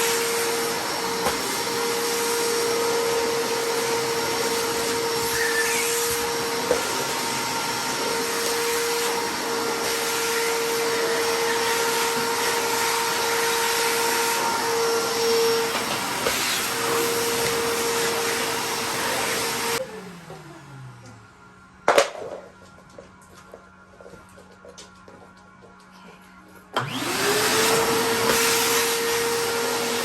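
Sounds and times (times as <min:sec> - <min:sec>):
vacuum cleaner running: 0:00.0 - 0:24.6, 0:26.6 - 0:30.0.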